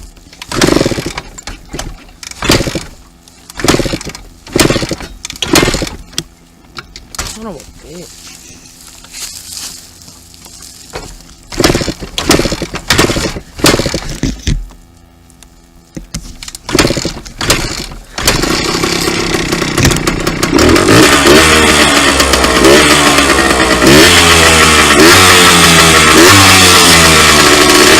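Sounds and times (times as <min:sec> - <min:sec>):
dirt bike engine sputtering and revving: 0:00.3 - 0:06.4, 0:07.0 - 0:14.8, 0:16.4 - 0:27.9.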